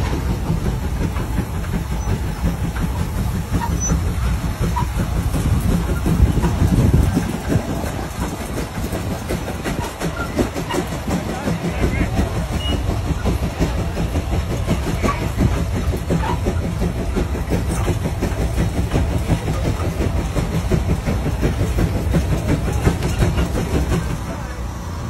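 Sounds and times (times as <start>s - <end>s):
steam traction engine chuffing: 0.0s - 25.0s.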